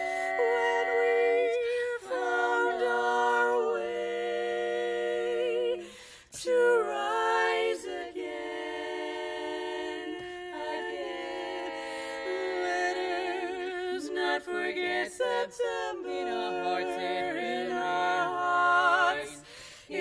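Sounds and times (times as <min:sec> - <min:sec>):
women singing close harmony: 0:00.0 - 0:20.0.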